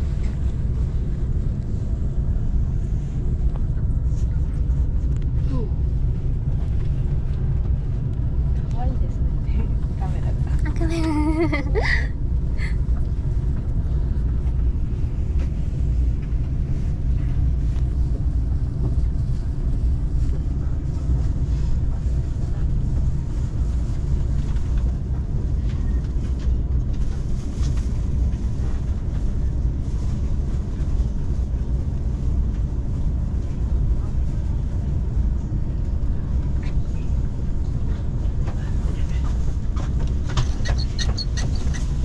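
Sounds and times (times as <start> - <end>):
train carriage low rumble and hum: 0.0 - 42.0.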